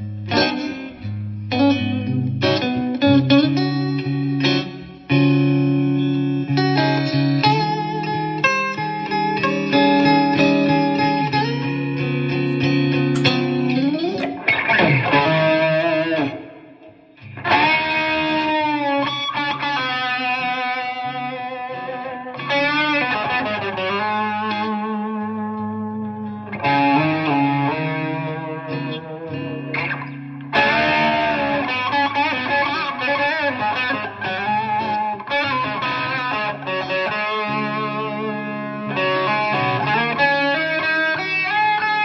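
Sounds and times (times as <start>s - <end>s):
electric guitar with effects: 0.0s - 42.0s.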